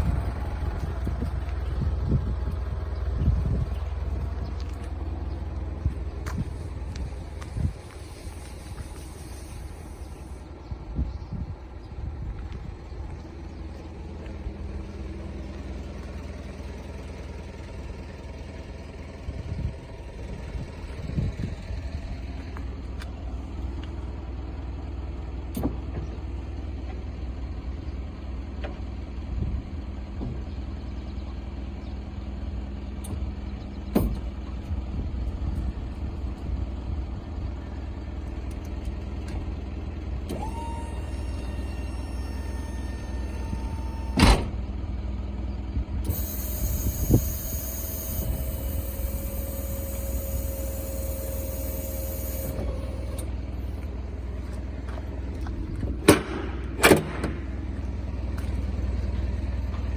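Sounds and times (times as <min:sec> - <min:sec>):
truck engine idling: 0:00.0 - 0:59.9.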